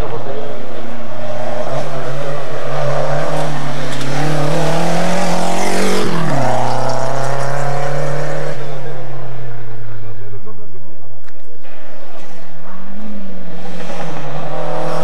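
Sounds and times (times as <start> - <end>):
rally car engine passing by: 0.0 - 10.0, 11.8 - 15.0.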